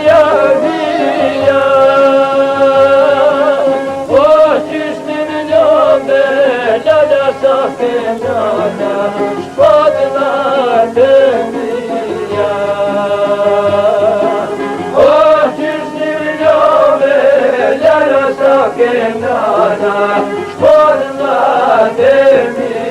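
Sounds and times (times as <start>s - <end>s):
folk music recording: 0.0s - 22.9s.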